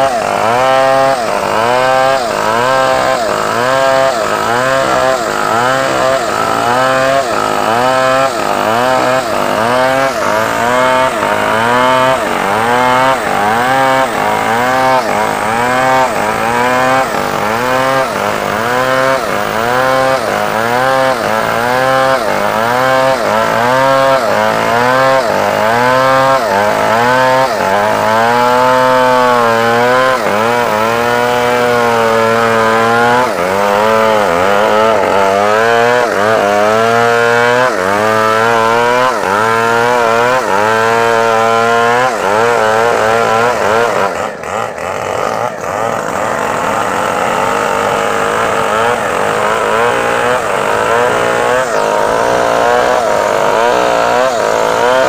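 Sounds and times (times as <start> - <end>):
chainsaw cutting timber: 0.0 - 55.0.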